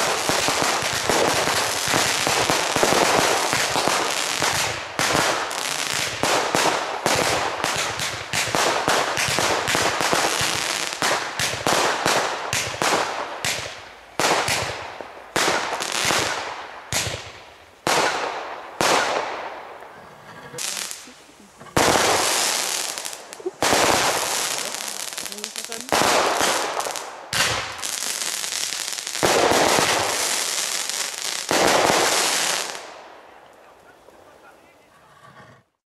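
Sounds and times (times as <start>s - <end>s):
fireworks bangs with echo: 0.0s - 19.8s, 20.6s - 33.3s.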